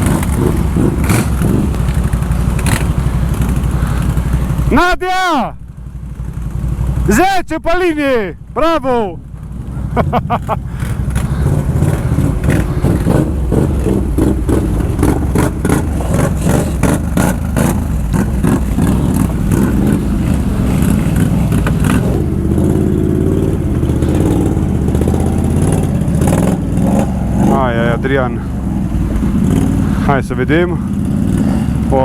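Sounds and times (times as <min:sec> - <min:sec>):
atv engine revving: 0:00.0 - 0:05.0, 0:05.6 - 0:32.0.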